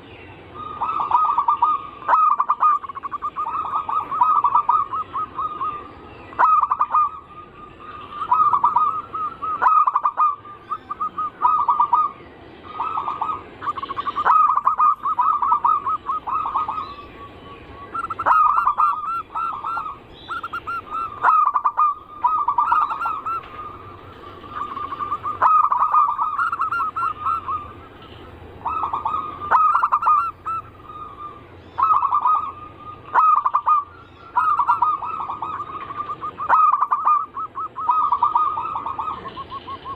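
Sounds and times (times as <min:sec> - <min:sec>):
dove cooing: 0:00.6 - 0:39.9.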